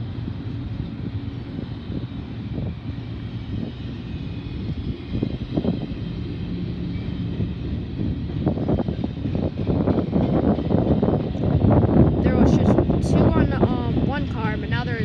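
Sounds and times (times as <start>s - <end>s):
faint high whine: 0.0s - 15.0s
freight train rumbling past: 0.0s - 15.0s.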